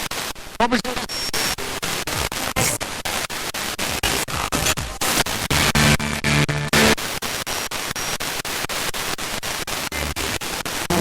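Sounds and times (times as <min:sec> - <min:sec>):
snatches of broadcast sound: 0:00.0 - 0:11.0
radio static bursts: 0:00.9 - 0:11.0.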